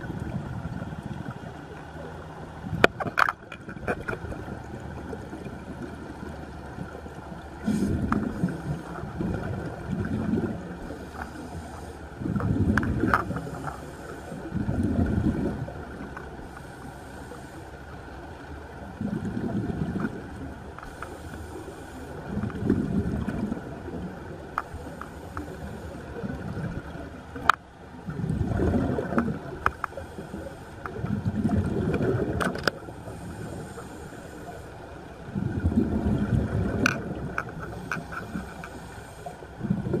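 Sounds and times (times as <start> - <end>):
underwater regulator bubbles gurgling: 0.0 - 40.0.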